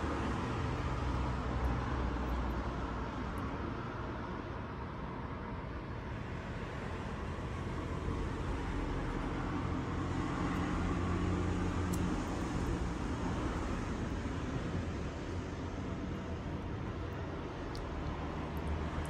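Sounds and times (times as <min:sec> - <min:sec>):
road traffic noise: 0:00.0 - 0:19.0
vehicle low rumble: 0:00.0 - 0:19.0.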